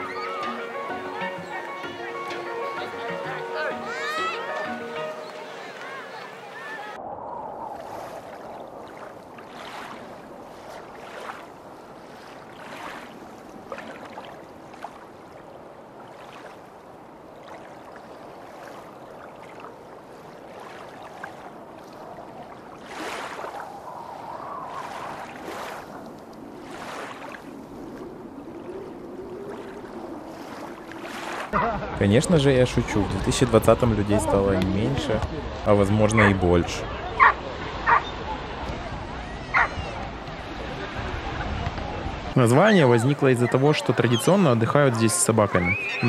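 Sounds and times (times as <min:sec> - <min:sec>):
small waves washing onto beach: 0:00.0 - 0:46.0.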